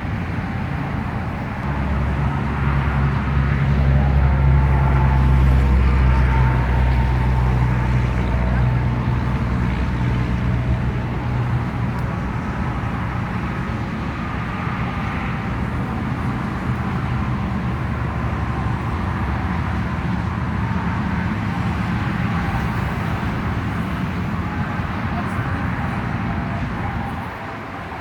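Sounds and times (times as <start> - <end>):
freeway traffic: 0.0 - 28.0.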